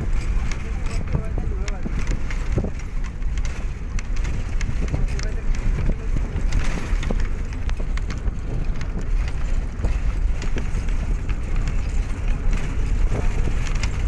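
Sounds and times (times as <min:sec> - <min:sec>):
bodywork rattling and knocking: 0:00.0 - 0:14.0
bus engine and tyre rumble: 0:00.0 - 0:14.0
wind buffeting microphone: 0:00.0 - 0:14.0.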